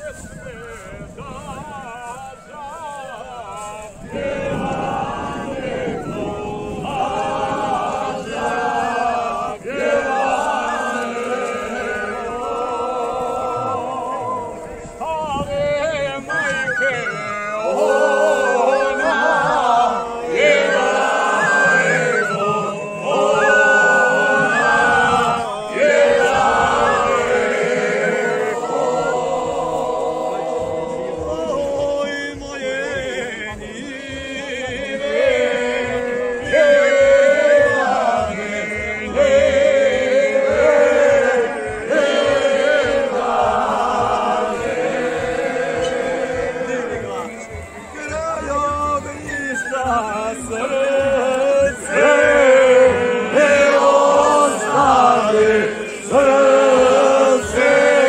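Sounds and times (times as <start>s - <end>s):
group of voices singing: 0.0s - 58.0s.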